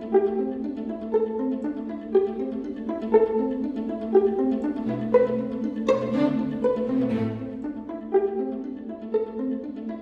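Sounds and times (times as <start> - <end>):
plucked string melody: 0.0 - 10.0.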